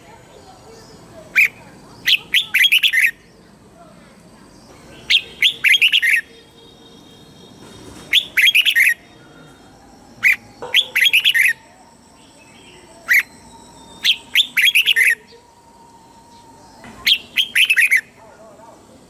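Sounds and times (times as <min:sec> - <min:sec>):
bird singing whistled phrases: 0:00.6 - 0:03.4, 0:04.9 - 0:18.2.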